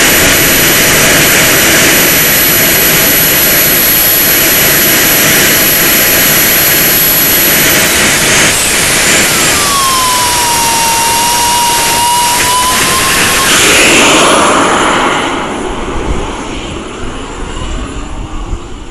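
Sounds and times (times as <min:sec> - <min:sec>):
model jet engine roaring and whining: 0:00.0 - 0:18.9.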